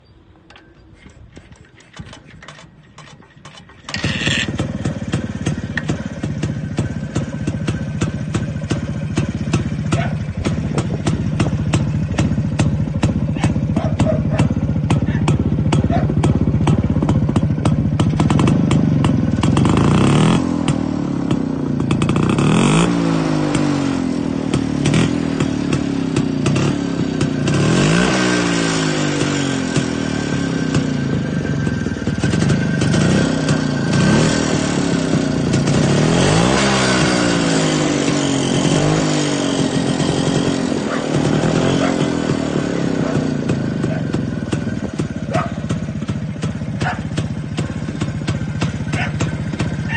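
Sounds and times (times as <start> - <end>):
motorcycle engine revving: 0.5 - 49.9.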